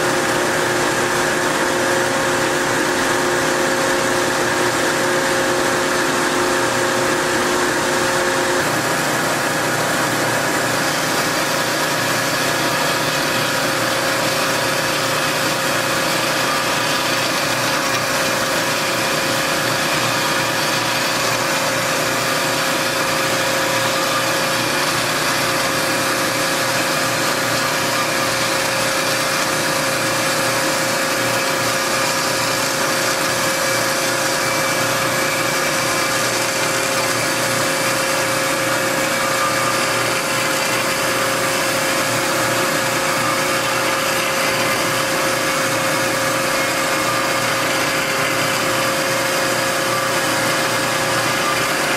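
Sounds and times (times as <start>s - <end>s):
band saw cutting metal: 0.0s - 51.9s.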